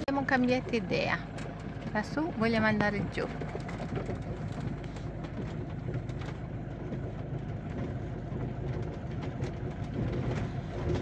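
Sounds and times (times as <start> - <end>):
van engine running: 0.0 - 11.0
small clicks and rattles: 1.3 - 2.0, 2.8 - 11.0.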